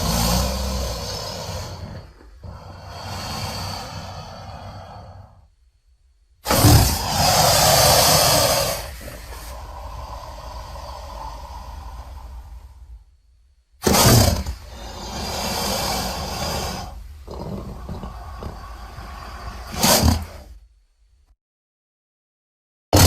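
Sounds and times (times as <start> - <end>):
dinosaur roars: 0.0 - 5.4, 6.4 - 12.9, 13.8 - 20.6.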